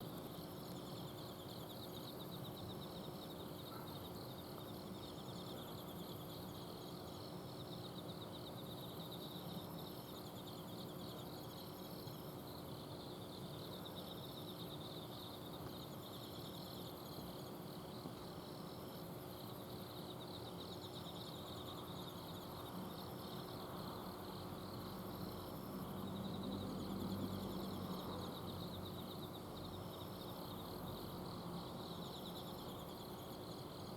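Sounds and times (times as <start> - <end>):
air conditioner unit humming: 0.0 - 33.9
insects chirping and trilling: 0.0 - 33.9.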